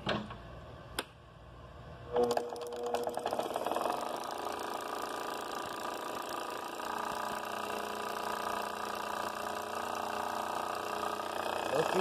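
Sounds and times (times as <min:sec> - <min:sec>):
electric motor spinning magneto: 0:02.1 - 0:12.0.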